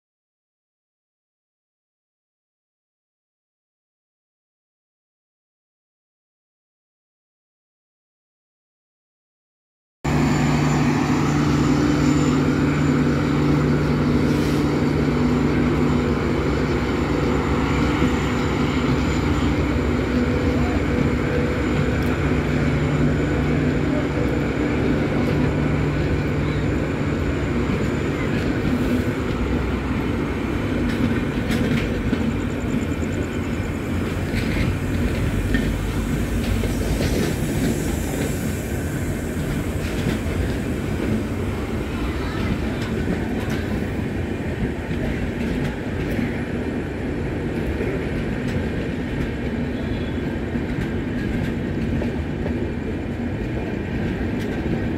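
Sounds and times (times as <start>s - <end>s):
train wheels rumbling on rails: 10.1s - 54.9s.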